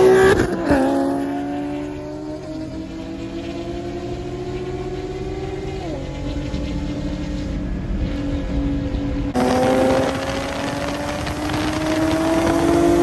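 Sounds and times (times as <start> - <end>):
sports car engines accelerating: 0.0 - 13.0.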